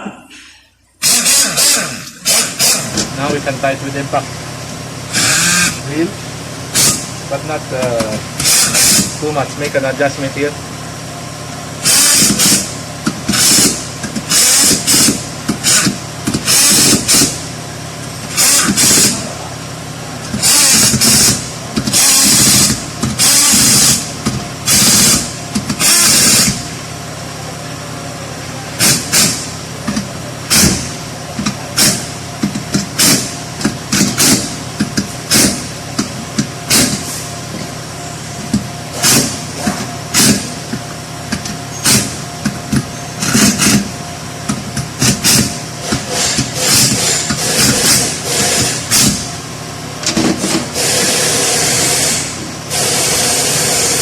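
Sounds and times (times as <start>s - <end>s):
steady low hum: 0.0s - 54.0s
impact wrench bursts: 1.0s - 3.6s, 5.0s - 5.9s, 6.6s - 9.7s, 11.7s - 19.4s, 20.2s - 26.8s, 28.8s - 54.0s.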